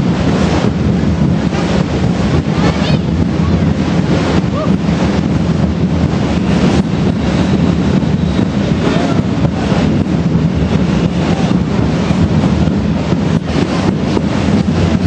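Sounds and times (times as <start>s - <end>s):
street parade and crowd din: 0.0s - 15.0s.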